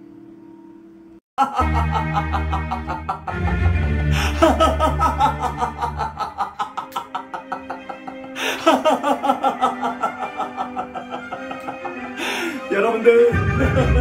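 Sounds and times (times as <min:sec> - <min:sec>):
man laughing: 0:01.4 - 0:14.0.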